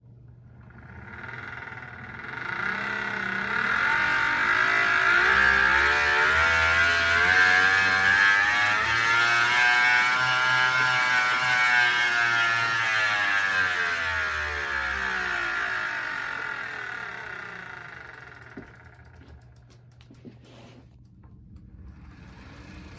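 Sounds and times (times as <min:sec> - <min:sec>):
bike trainer whine: 0:00.1 - 0:22.9.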